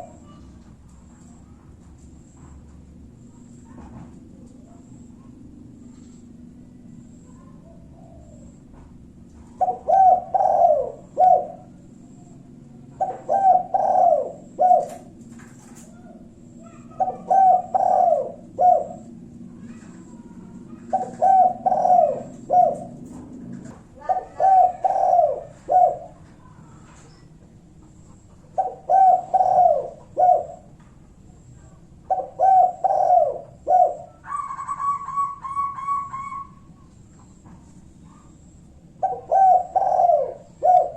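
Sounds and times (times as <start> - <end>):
dove cooing: 0.0 - 1.3, 4.4 - 37.4, 38.1 - 40.9
faint low hum: 0.0 - 40.9.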